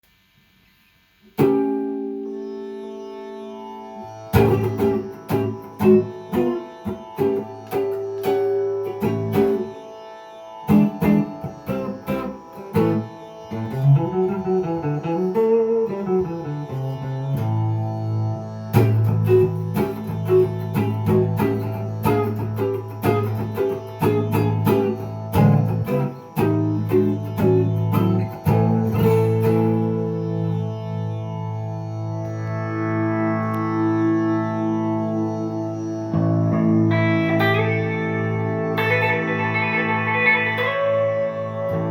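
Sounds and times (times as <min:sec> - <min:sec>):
electric guitar improvising: 0:01.2 - 0:41.9.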